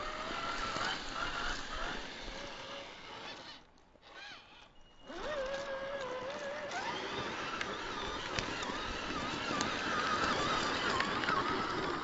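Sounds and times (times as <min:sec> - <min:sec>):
rc car electric motor whining: 0:00.0 - 0:12.0.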